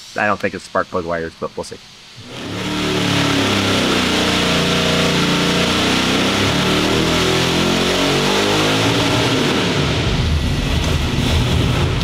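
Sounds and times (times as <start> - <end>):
race engine at full throttle: 2.2 - 12.0.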